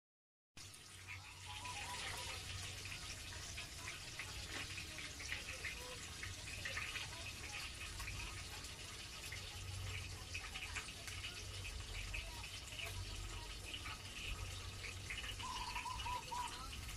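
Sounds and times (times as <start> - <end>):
fish sizzling in hot oil: 0.6 - 16.9.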